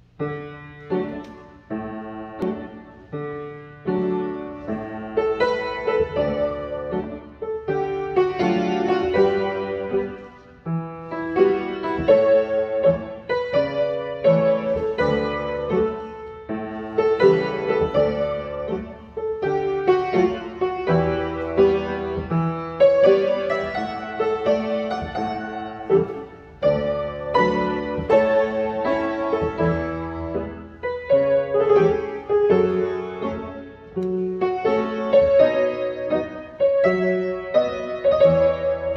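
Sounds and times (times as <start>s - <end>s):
upright piano playing chords: 0.0s - 38.9s.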